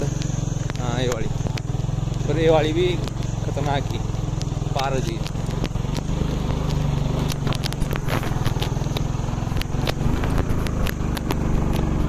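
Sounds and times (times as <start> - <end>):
motorcycle engine running: 0.0 - 12.0
sharp clicks and knocks: 0.0 - 12.0.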